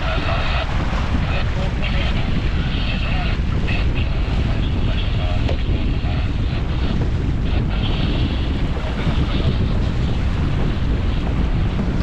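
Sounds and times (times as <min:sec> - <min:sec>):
water rushing past: 0:00.0 - 0:11.8
wind buffeting microphone: 0:00.0 - 0:12.0.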